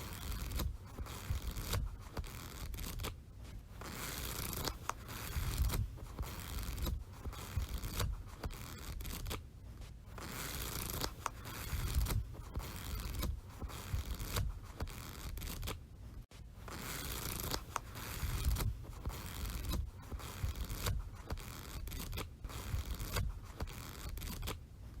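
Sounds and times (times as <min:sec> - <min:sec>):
paper rustling and crinkling: 0:00.0 - 0:25.0.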